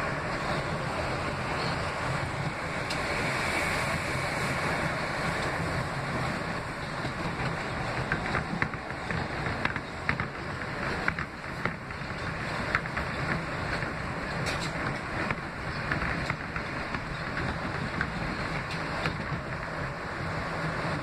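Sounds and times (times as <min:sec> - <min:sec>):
subway train rumbling on rails: 0:00.0 - 0:21.0.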